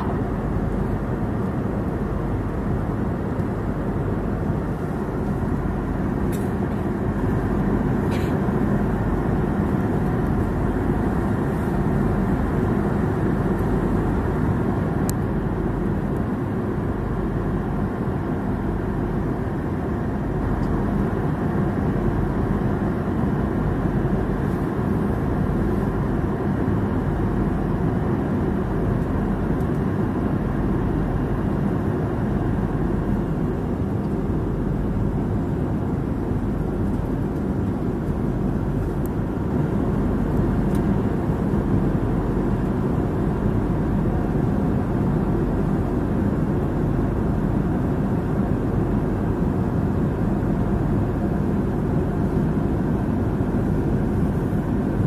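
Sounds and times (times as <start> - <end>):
jet airliner cabin noise: 0.0 - 55.0.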